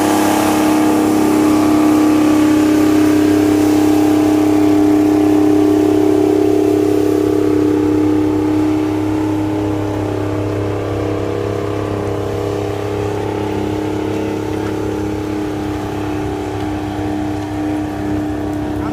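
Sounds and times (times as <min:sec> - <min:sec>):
tractor engines droning: 0:00.0 - 0:18.9.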